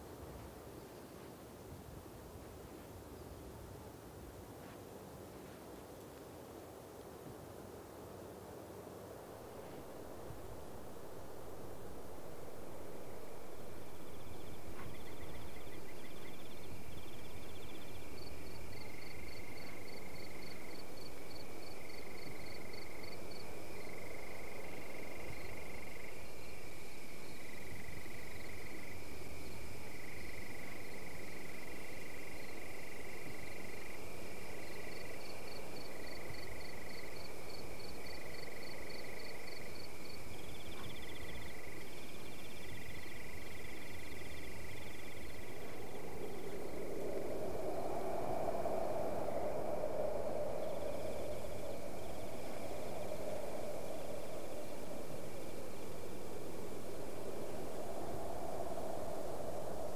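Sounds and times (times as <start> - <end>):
constant hiss: 0.0 - 59.9.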